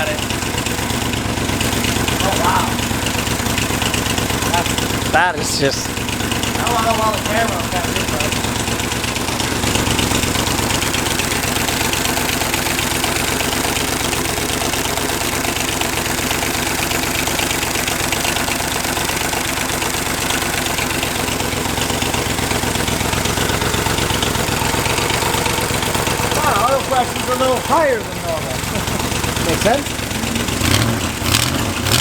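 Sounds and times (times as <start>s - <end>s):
engine idling rapidly: 0.0s - 32.0s.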